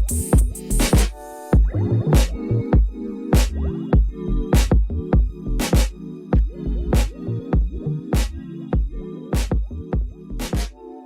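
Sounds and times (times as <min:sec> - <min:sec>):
electronic music with drum beat: 0:00.0 - 0:10.8.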